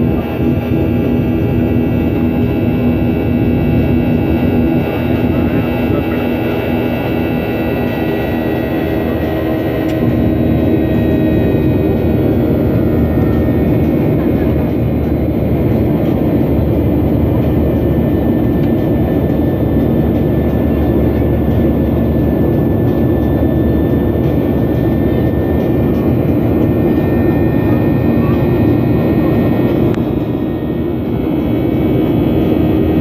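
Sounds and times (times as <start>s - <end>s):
jet airliner taking off: 0.0s - 33.0s.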